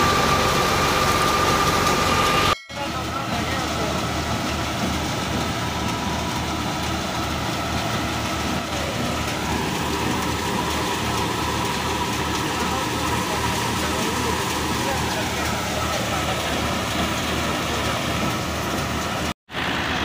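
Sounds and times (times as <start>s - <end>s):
diesel tractor engine: 0.0s - 20.0s
thresher whine: 0.0s - 20.0s.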